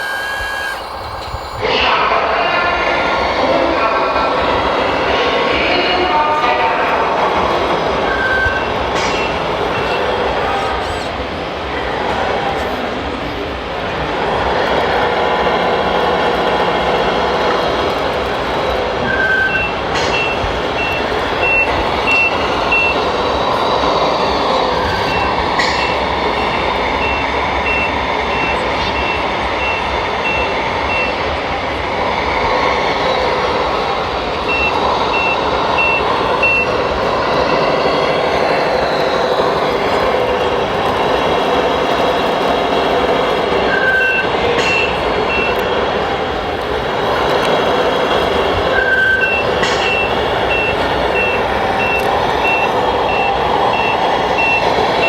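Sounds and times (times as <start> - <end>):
reversing beeper: 0.0 - 11.1, 14.4 - 45.7, 47.6 - 55.0
steady noisy background: 0.0 - 55.0.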